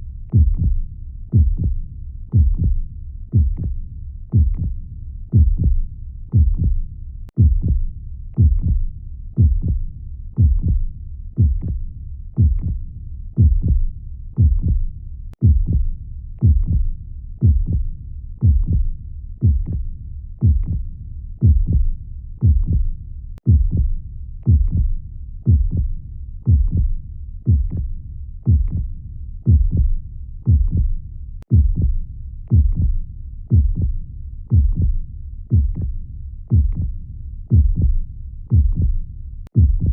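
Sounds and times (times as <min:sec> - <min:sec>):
constant low rumble: 0:00.0 - 0:39.9
heartbeat thumps: 0:00.3 - 0:39.9.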